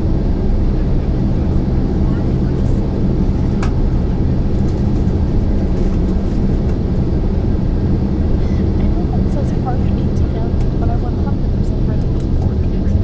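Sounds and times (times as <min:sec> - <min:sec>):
air-conditioning: 0:00.0 - 0:13.0
aircraft engines rumbling: 0:00.0 - 0:13.0.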